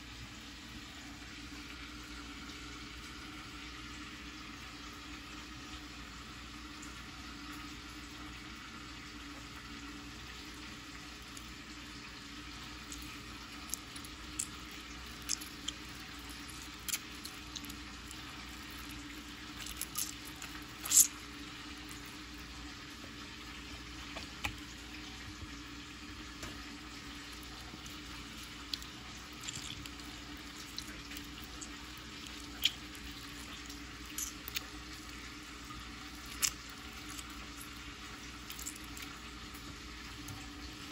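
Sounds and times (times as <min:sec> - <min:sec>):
faint kitchen hum: 0:00.0 - 0:40.9.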